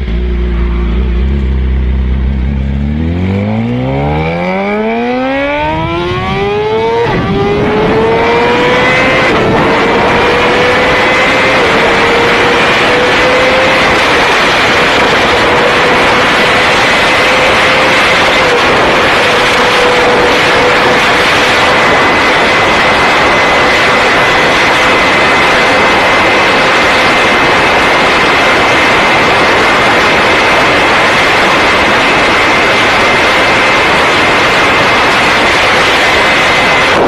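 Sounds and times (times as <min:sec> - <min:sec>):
motorcycle engine at high speed: 0:00.0 - 0:37.0
wind noise: 0:00.0 - 0:37.0.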